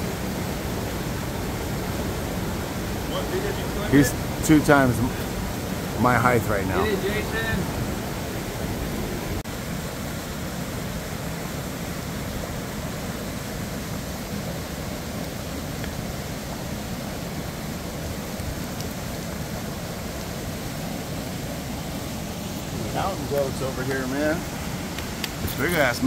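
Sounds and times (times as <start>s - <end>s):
flowing creek and waterfall: 0.0s - 26.0s.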